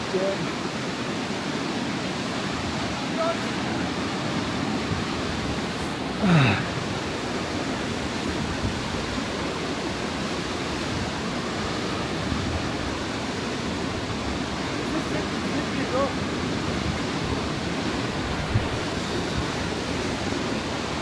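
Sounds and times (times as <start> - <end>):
waterfall roar: 0.0 - 21.0.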